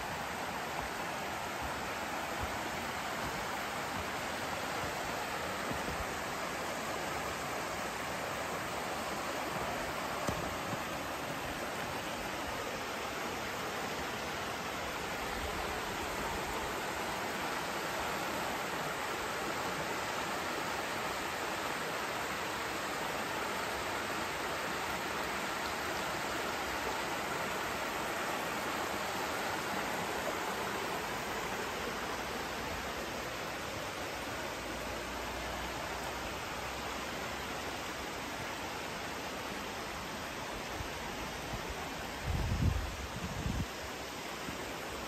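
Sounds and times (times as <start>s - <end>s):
river water rushing over rock: 0.0s - 45.0s.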